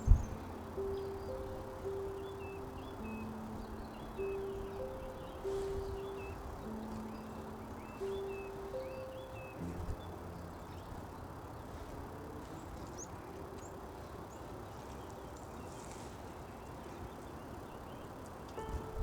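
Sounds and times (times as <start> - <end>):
small birds chirping: 0.0 - 19.0
wind: 0.0 - 19.0.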